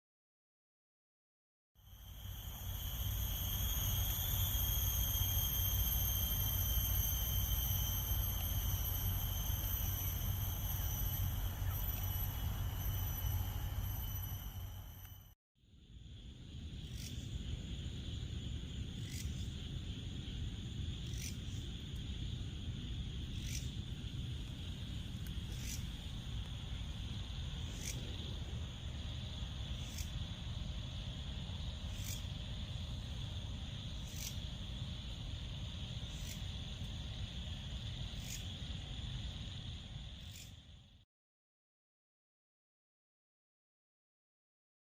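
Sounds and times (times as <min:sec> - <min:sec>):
insects high drone: 0:01.8 - 0:41.0.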